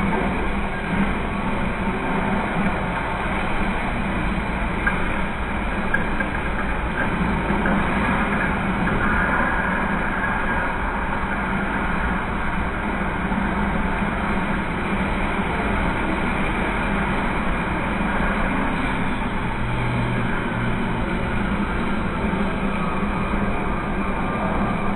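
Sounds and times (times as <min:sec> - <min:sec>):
tram engine rumble: 0:00.0 - 0:24.9.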